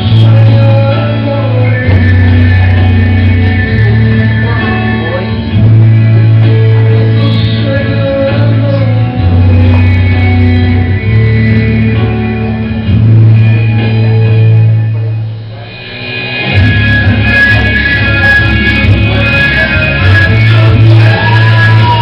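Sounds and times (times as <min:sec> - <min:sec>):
person singing: 0:00.0 - 0:12.5, 0:15.6 - 0:22.0
guitar: 0:00.0 - 0:22.0
long held bass notes: 0:00.0 - 0:22.0.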